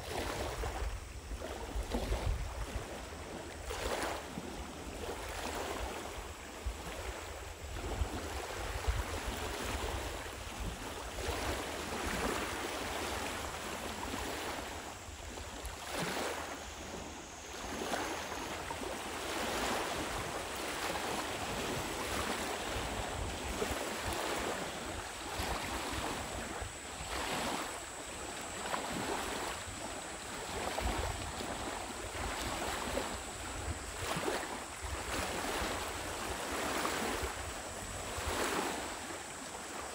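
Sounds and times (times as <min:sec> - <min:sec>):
lake waves lapping at shore: 0:00.0 - 0:39.9
wind rumbling on microphone: 0:00.0 - 0:39.9.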